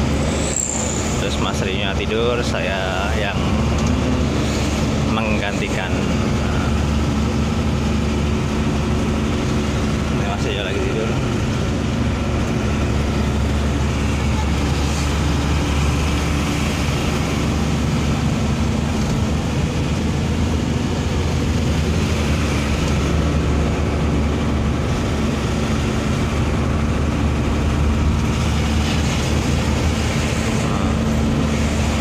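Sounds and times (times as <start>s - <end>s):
road and tyre noise: 0.0s - 32.0s
truck diesel engine running: 0.0s - 32.0s.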